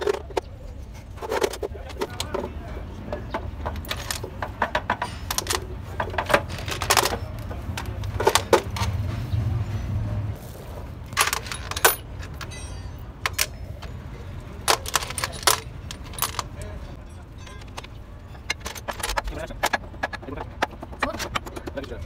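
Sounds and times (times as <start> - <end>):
metal gearbox parts clinking: 0.0 - 10.0, 11.0 - 22.0.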